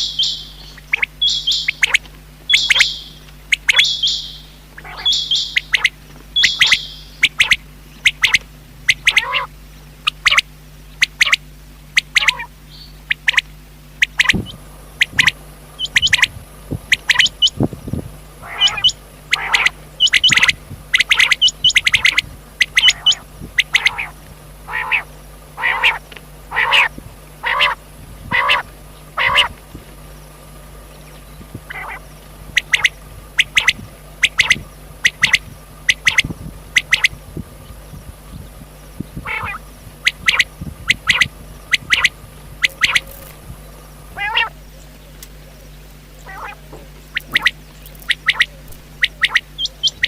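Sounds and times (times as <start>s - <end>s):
quail calling: 0.0s - 50.0s.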